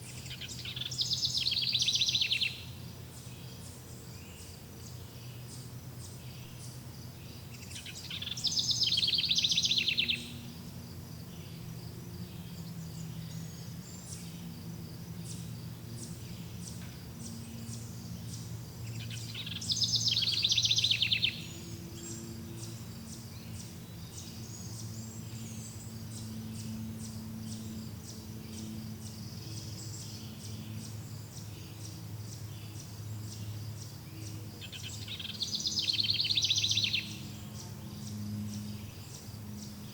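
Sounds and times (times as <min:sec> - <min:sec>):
insects chirping: 0:00.0 - 0:39.9
low background hum: 0:00.0 - 0:39.9.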